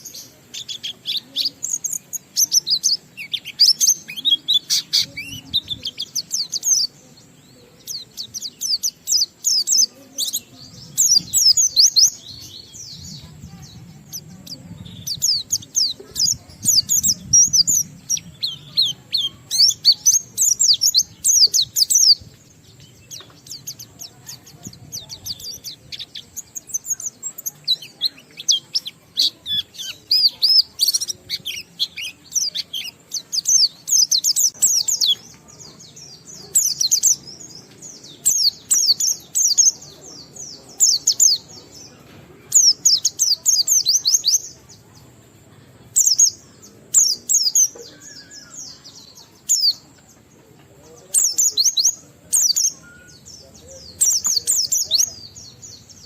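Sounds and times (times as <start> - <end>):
bird chirping high rapid phrases: 0.0 - 41.9, 42.5 - 45.2, 45.8 - 50.3, 51.1 - 56.0.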